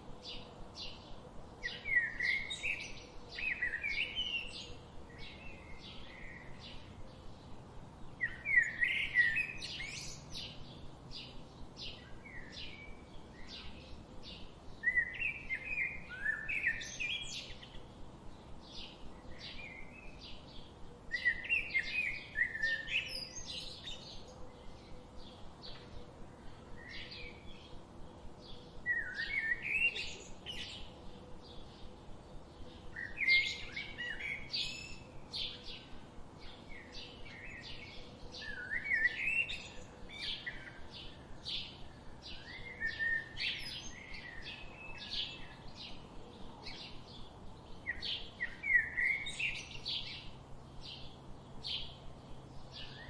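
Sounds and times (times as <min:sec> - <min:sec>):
songbirds chirping and warbling: 0:00.0 - 0:53.0.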